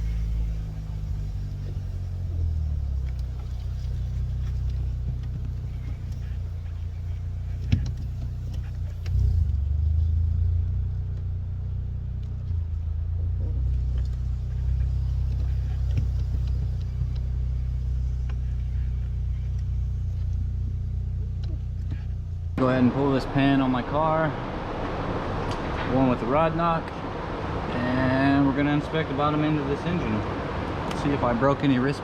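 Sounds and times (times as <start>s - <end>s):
car engine running at low revs: 0.0s - 32.0s.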